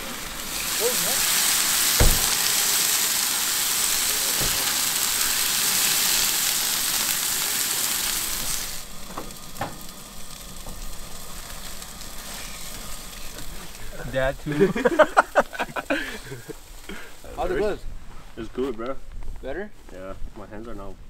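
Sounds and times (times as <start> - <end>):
food sizzling: 0.0 - 18.6.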